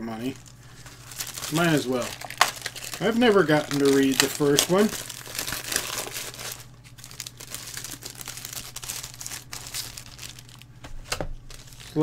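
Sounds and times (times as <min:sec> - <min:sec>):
plastic bag crinkling: 0:00.3 - 0:10.7, 0:11.4 - 0:12.0.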